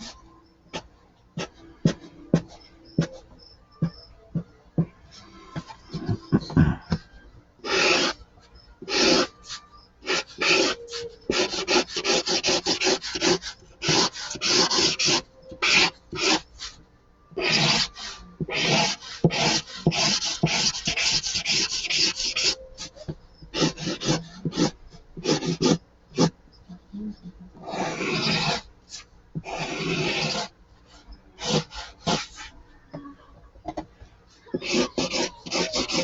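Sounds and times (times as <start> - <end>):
marker scratching on paper: 0.0 - 4.9, 7.6 - 8.2, 8.8 - 26.4, 27.6 - 32.6, 34.4 - 36.0.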